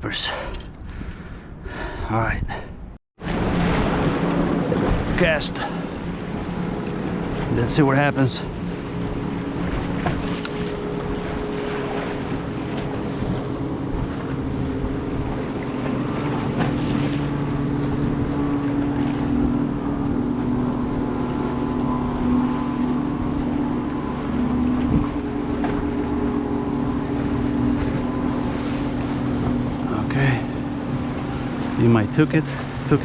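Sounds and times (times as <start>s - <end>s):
boat engine humming: 0.0s - 33.0s
wind buffeting microphone: 0.7s - 33.0s.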